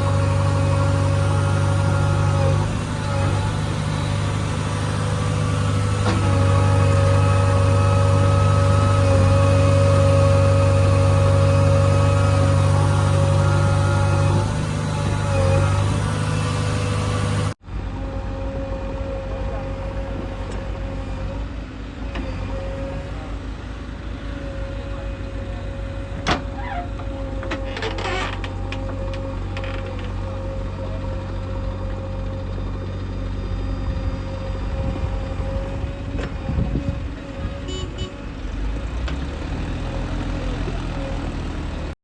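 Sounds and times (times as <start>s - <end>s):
diesel engines running: 0.0s - 42.0s
engine whine: 0.0s - 42.0s.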